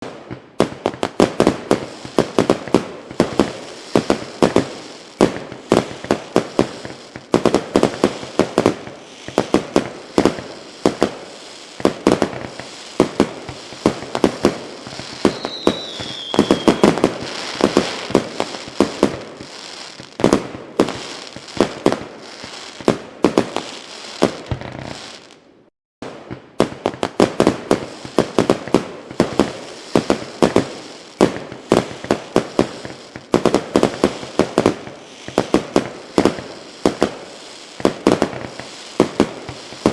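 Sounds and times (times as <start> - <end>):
sharp bangs and pops: 0.0 - 25.0, 26.0 - 39.9.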